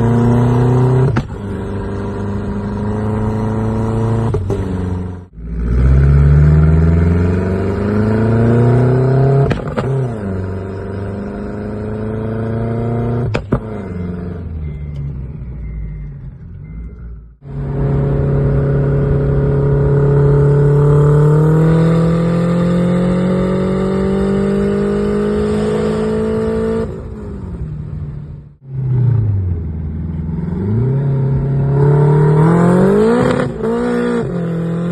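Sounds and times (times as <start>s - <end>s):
turbocharged car engine accelerating: 0.0s - 27.6s, 28.6s - 34.9s.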